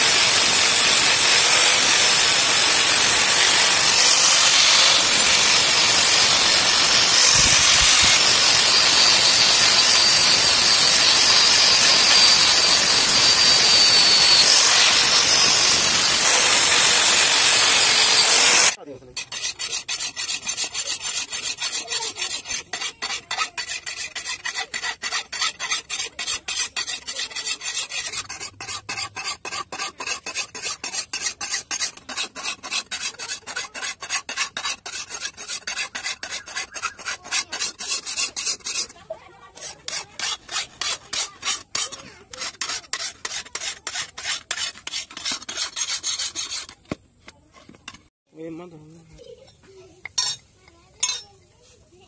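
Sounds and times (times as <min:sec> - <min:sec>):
file rasping on steel blade: 0:00.0 - 0:47.0, 0:50.1 - 0:50.4, 0:51.0 - 0:51.3.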